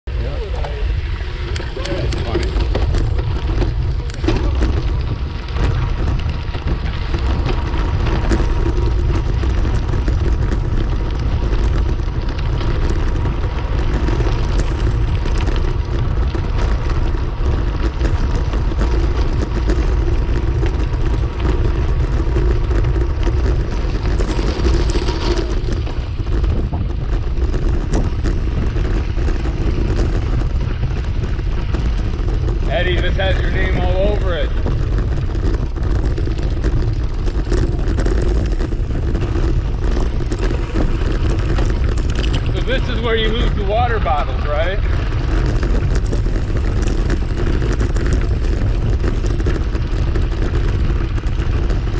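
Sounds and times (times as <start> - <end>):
bicycle tyres rolling on gravel: 0.0 - 51.9
wind rush on microphone: 0.0 - 51.9.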